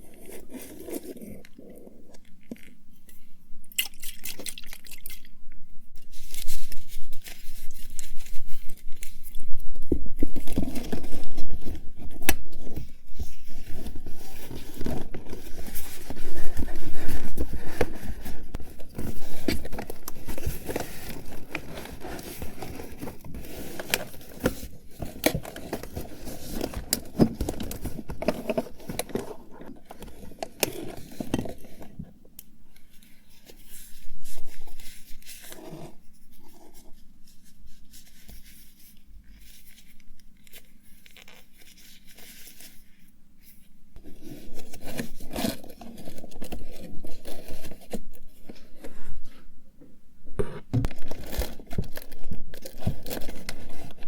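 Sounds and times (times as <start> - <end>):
items rustling and crinkling: 0.0 - 3.6, 5.3 - 54.0.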